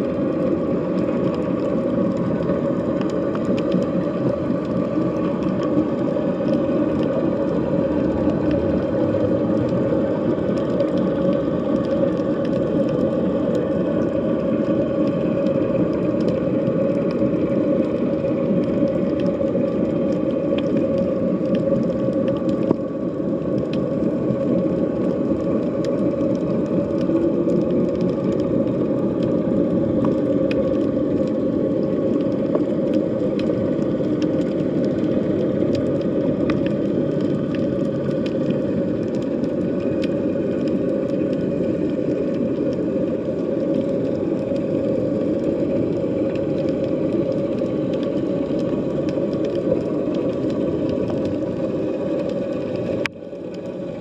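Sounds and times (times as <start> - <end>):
faint underwater clicks: 0.0 - 54.0
underwater low rumble: 0.0 - 54.0.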